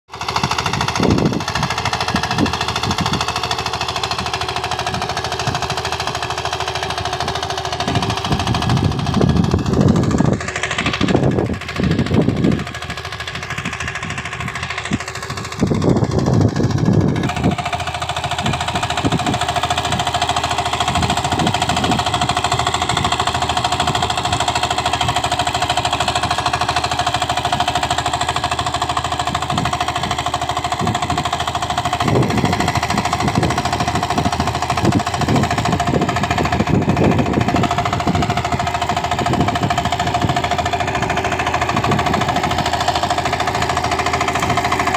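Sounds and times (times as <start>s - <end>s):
power tiller engine pounding: 0.1s - 44.9s.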